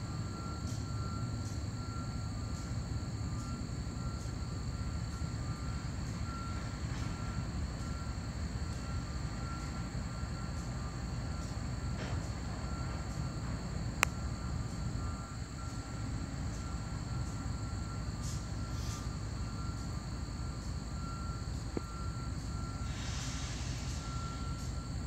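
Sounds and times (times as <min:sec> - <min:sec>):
diesel locomotive rumble: 0:00.0 - 0:25.0.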